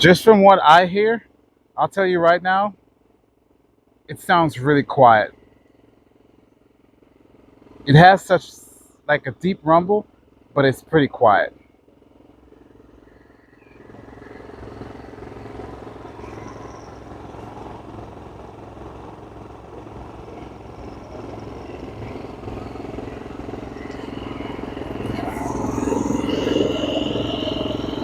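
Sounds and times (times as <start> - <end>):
generator engine running: 0.0 - 28.0.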